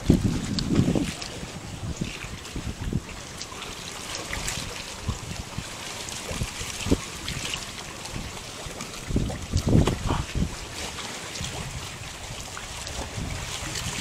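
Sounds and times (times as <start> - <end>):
wind buffeting microphone: 0.0 - 3.7, 4.3 - 14.0
water lapping and trickling: 0.0 - 14.0.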